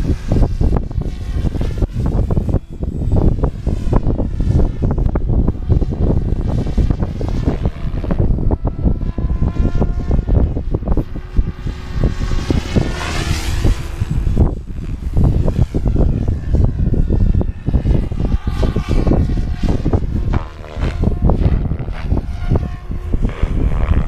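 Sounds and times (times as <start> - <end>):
model helicopter motor whine: 0.0 - 24.0
wind buffeting microphone: 0.0 - 24.0.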